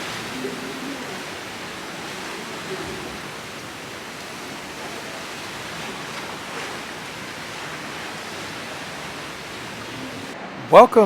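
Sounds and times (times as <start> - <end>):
sea rushing: 0.0 - 11.0
wind: 0.0 - 11.0.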